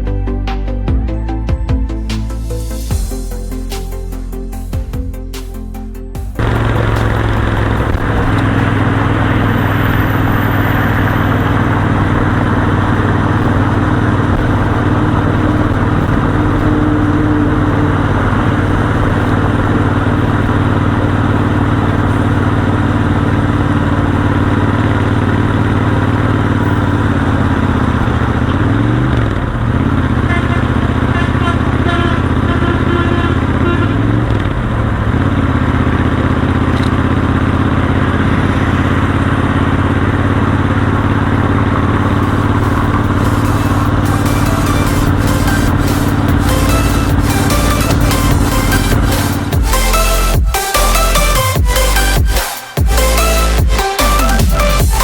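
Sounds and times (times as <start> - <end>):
steady rushing noise: 6.2 - 30.3, 34.4 - 55.0
motorcycle engine running: 6.2 - 55.0.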